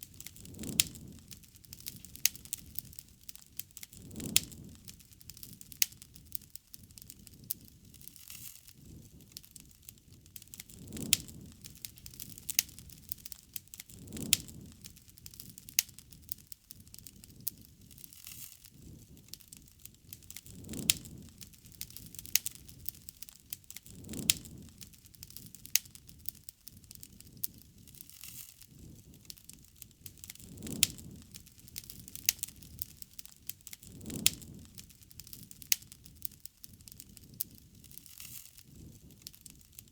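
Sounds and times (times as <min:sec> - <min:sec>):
low rush of fire: 0:00.0 - 0:39.9
wood fire crackling: 0:00.0 - 0:39.9.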